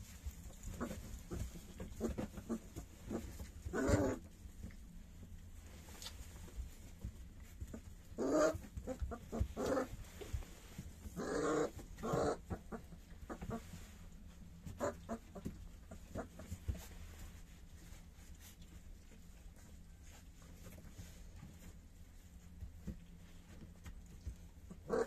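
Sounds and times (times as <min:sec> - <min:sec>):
puppies scratching on bedding: 0:00.0 - 0:25.0.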